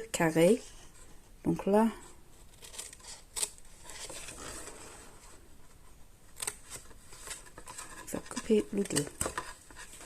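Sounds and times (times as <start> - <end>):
faint paper rustling: 0.4 - 10.0.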